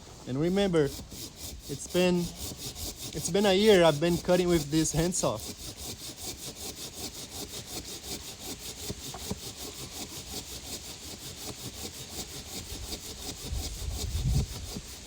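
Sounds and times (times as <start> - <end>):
handsaw rasping through log: 0.0 - 15.0.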